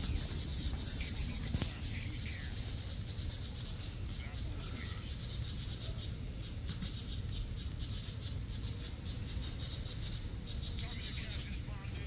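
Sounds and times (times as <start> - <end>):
crickets chirping trill: 0.0 - 11.9.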